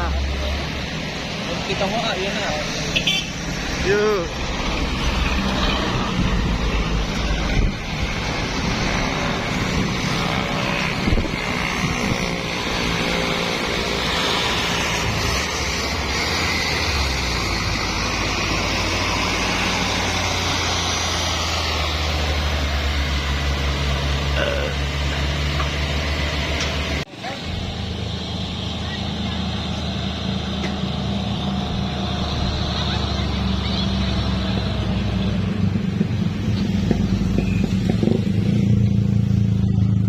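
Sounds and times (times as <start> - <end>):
diesel truck engines droning: 0.0 - 40.0.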